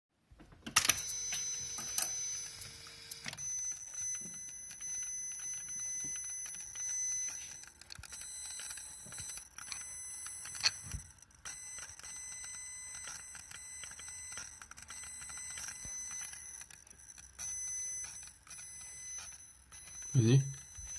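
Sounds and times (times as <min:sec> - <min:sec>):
irregular clicking and ticking: 0:00.7 - 0:20.9.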